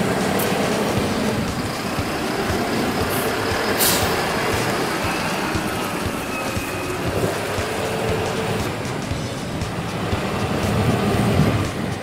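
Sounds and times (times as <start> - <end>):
forklift diesel engine running: 0.0 - 12.0
truck engine: 0.0 - 12.0
air hiss: 0.1 - 12.0.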